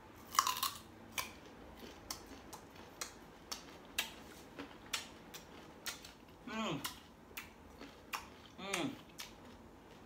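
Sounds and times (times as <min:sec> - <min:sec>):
crunchy fruit bite and chewing: 0:00.2 - 0:10.0.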